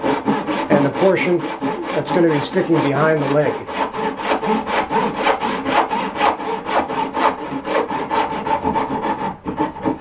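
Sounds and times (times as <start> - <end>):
handsaw cutting wood: 0.0 - 10.0.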